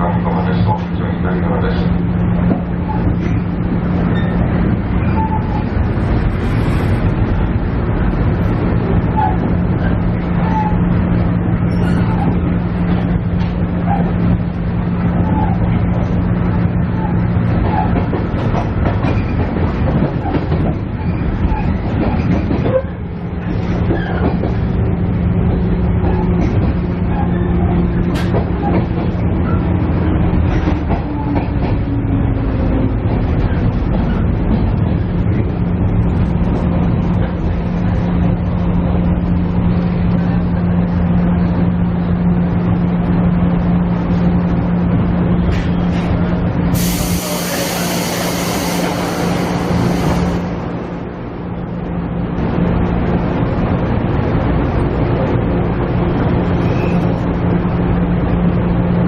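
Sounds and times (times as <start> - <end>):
wheels on rail: 0.2 - 58.6.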